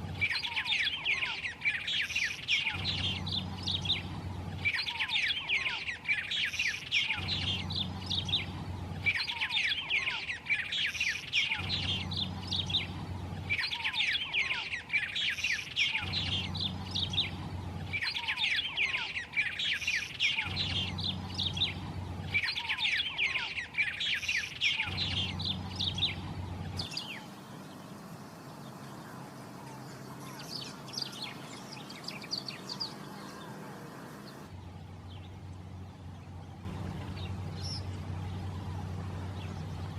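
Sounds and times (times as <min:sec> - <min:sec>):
fainter high-pitched bird song: 0:00.0 - 0:39.9
bird singing chattering notes: 0:00.2 - 0:39.9.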